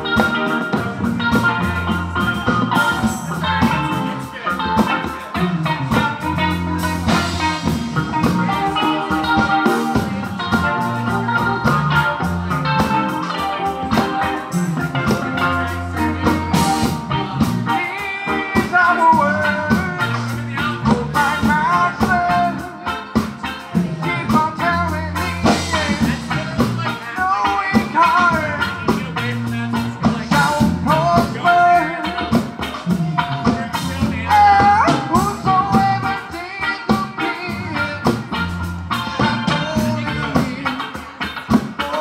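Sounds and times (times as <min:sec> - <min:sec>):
bass guitar: 0:00.0 - 0:42.0
drum kit: 0:00.0 - 0:42.0
electric guitar: 0:00.0 - 0:42.0
person singing: 0:00.0 - 0:42.0.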